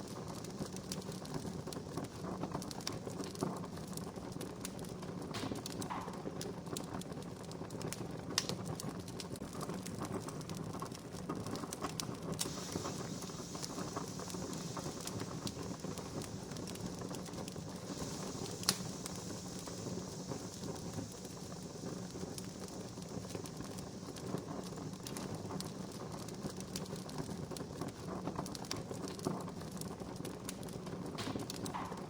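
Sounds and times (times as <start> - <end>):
burning wood popping: 0.0 - 32.0
wood fire crackling: 0.0 - 32.0.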